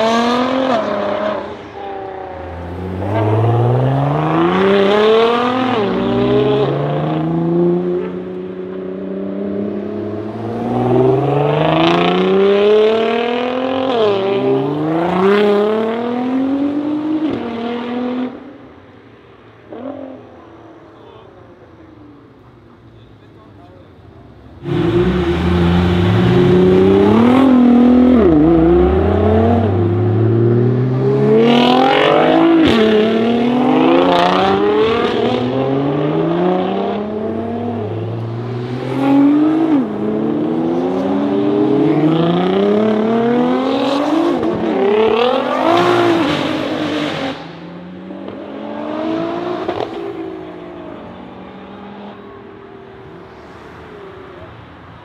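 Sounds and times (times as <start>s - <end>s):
sports cars accelerating past: 0.0s - 18.7s, 24.5s - 55.0s.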